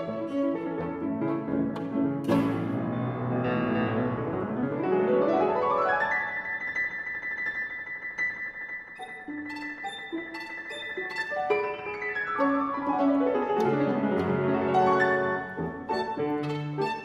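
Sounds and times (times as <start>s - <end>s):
piano trio music: 0.0s - 17.0s.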